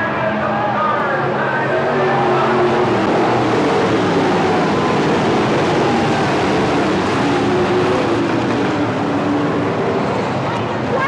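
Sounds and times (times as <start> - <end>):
stock car engines racing: 0.0 - 11.0.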